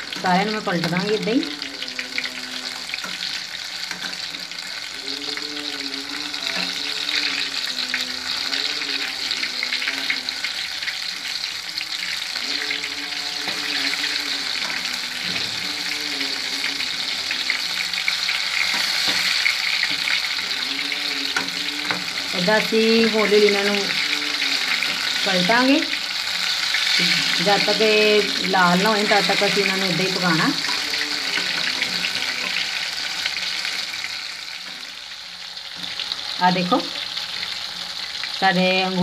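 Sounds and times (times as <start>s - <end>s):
oil sizzling while deep-frying: 0.0s - 39.0s.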